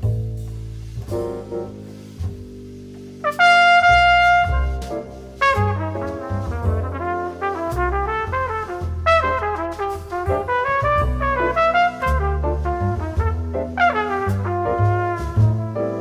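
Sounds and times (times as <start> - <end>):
instrumental music with lead line: 0.0 - 16.0
steady bass line: 0.0 - 16.0.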